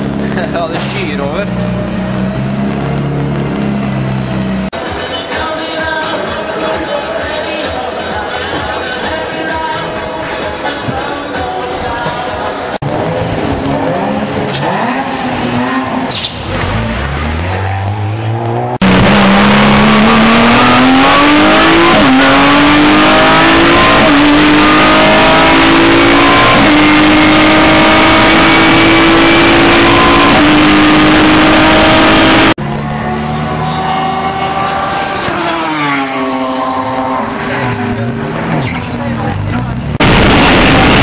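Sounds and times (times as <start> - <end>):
race car engine revving: 0.0 - 4.8, 12.8 - 41.0.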